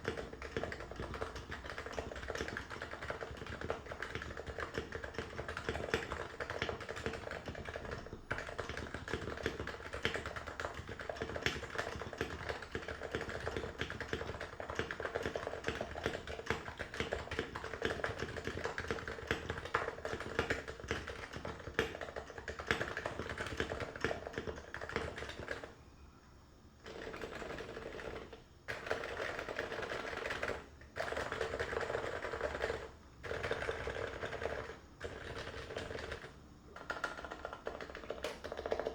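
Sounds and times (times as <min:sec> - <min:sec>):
fast keyboard typing: 0:00.0 - 0:25.8, 0:26.8 - 0:38.9.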